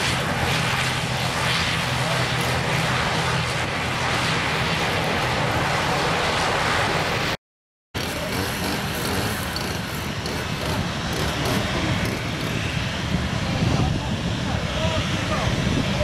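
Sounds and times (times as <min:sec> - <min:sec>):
jet engines taxiing: 0:00.0 - 0:07.4, 0:08.0 - 0:16.0
turboprop engines rolling: 0:00.0 - 0:07.4, 0:08.0 - 0:16.0.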